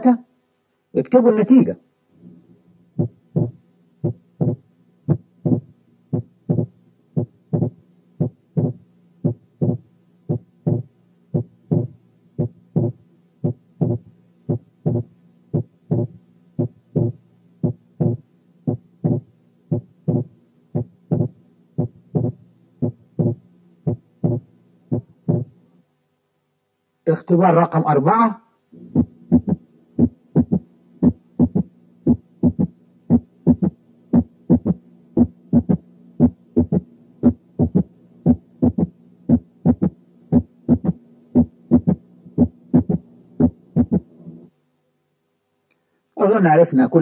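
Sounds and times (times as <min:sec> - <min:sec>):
heartbeat thuds: 0:03.0 - 0:25.5, 0:28.8 - 0:44.1.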